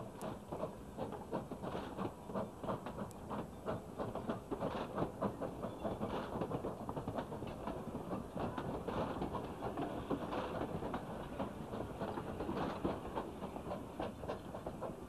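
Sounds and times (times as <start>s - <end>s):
train wheels clattering on track: 0.0s - 15.0s.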